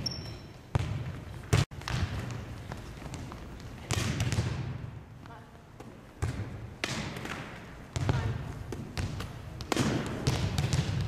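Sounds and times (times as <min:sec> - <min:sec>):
volleyball thumps echoing in gym: 0:00.0 - 0:11.0.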